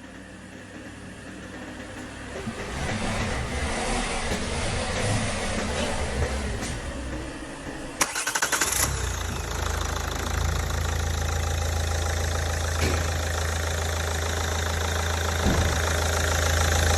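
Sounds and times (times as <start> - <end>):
car engine idling: 0.0 - 16.9
engine starter cranking: 1.8 - 16.9.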